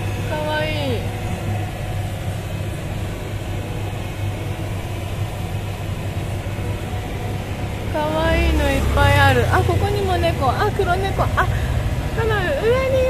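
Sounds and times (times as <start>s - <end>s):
low even hum: 0.0s - 13.0s
street background noise: 0.0s - 13.0s.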